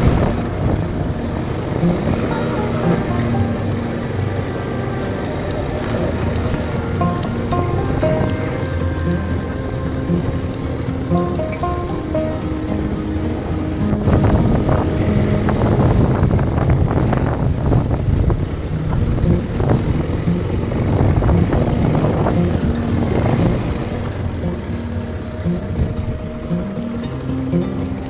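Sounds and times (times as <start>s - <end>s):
faint background music: 0.0s - 28.0s
quad bike engine running: 0.0s - 28.0s.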